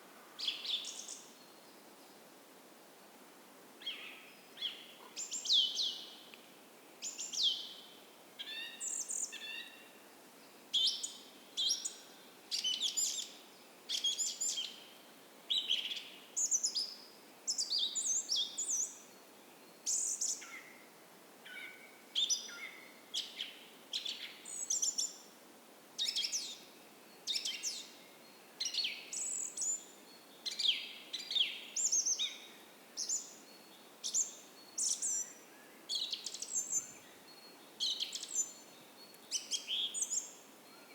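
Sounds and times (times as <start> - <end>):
songbirds chirping: 0.0 - 2.4, 3.6 - 40.9.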